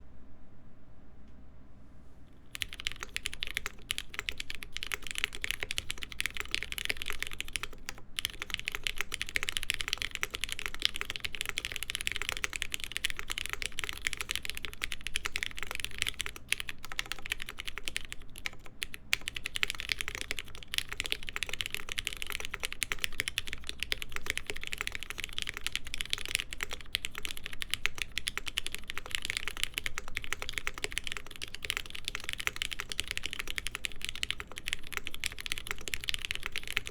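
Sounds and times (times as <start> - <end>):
mechanical keyboard typing: 2.5 - 36.9.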